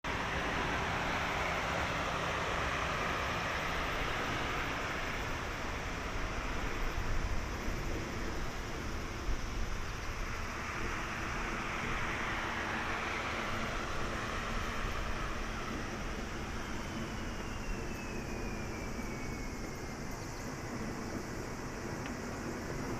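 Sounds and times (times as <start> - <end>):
jet engines rushing: 0.1 - 22.9.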